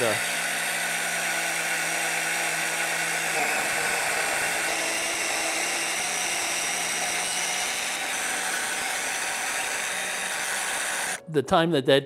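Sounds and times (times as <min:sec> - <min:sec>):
electric oil pump sucking air: 0:00.0 - 0:11.2.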